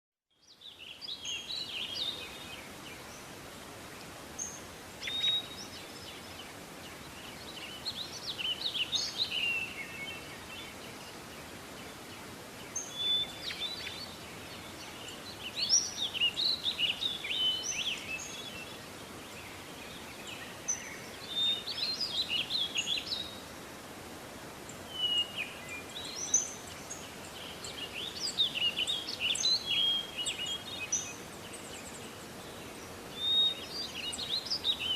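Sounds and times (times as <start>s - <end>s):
steady outdoor hiss: 0.3s - 34.9s
songbirds chirping and singing: 0.4s - 23.6s, 24.7s - 34.9s.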